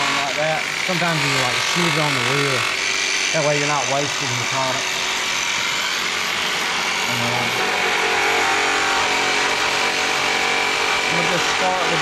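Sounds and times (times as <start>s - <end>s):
rotary polisher hiss and whine: 0.0s - 12.0s.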